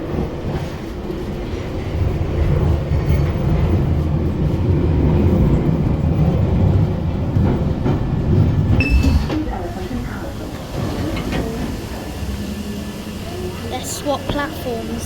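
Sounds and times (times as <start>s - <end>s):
underground train rumbling: 0.0s - 15.0s.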